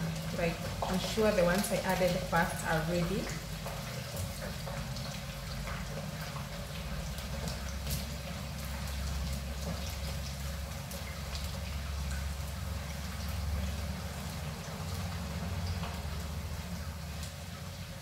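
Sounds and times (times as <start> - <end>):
oil sizzling and crackling: 0.0 - 18.0.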